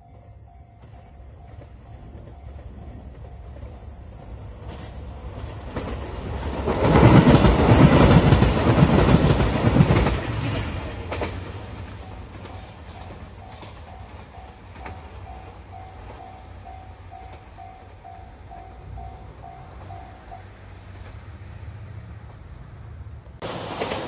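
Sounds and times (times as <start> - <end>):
train passing at speed: 0.0 - 24.0
wheels clattering over rails: 0.8 - 19.9, 23.4 - 24.0.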